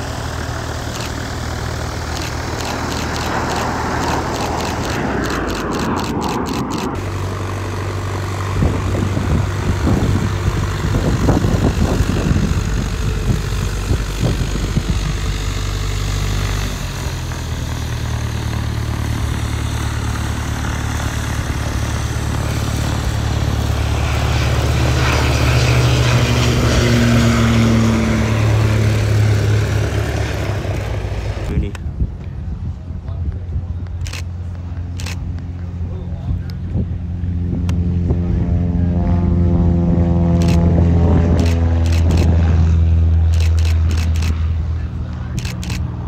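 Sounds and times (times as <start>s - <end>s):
propeller aircraft engine drone: 0.0s - 46.0s
turboprop plane taking off: 0.0s - 46.0s.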